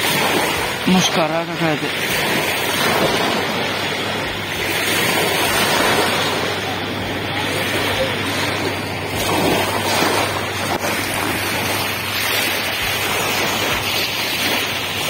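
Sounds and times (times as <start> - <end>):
small waves lapping on shore: 0.0 - 15.0
wind buffeting microphone: 0.0 - 15.0.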